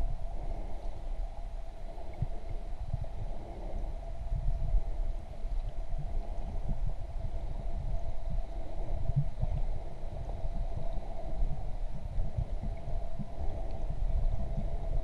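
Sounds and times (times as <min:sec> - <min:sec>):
steady hum: 0:00.0 - 0:15.0
underwater rumbling and thuds: 0:01.7 - 0:15.0.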